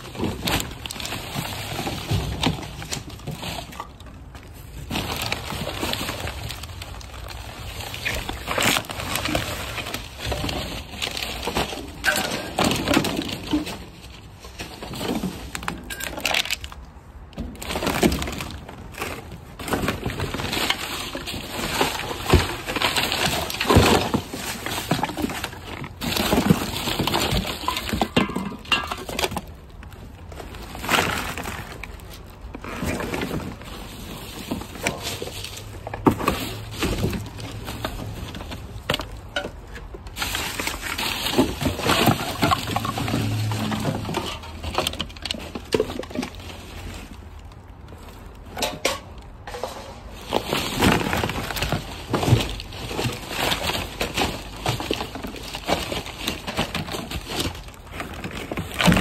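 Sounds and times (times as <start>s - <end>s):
bags and cardboard rustling: 0.0s - 59.0s.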